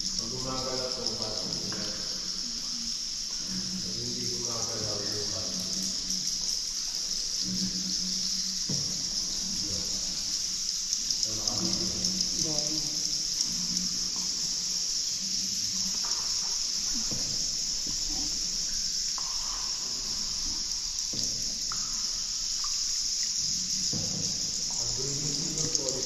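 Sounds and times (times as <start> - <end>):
insects chirring: 0.0 - 26.0
water splashes and drips: 0.0 - 26.0.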